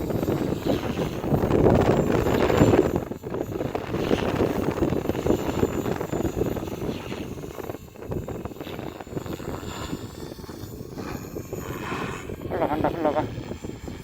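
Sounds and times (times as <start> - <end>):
helicopter rotor whirring: 0.0 - 14.0
wind buffeting microphone: 0.0 - 14.0.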